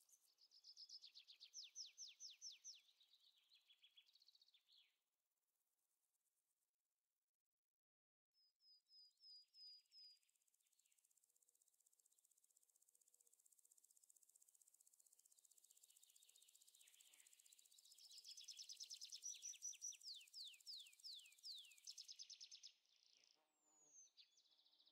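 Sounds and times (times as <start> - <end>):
faint high-pitched birdsong: 0.0 - 5.2, 8.4 - 24.9.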